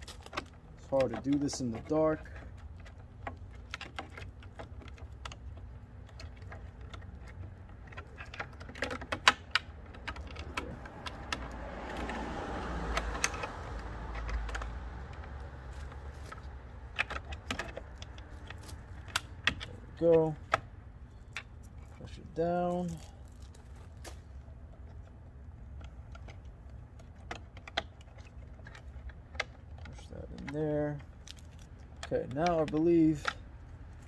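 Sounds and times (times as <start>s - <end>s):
plastic clicks and rattles: 0.0s - 12.2s, 12.9s - 22.0s, 24.7s - 33.5s.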